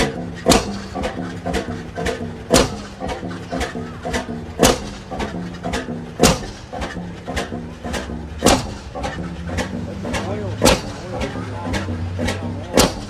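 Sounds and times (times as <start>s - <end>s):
engine clicking: 0.0s - 13.0s
stationary engine firing pops: 0.0s - 13.0s.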